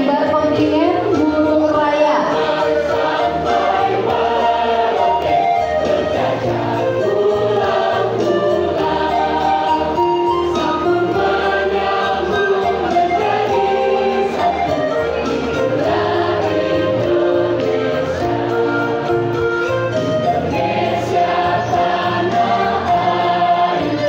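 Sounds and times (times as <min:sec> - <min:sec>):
electronic keyboards: 0:00.0 - 0:24.0
choir singing in parts: 0:00.4 - 0:24.0.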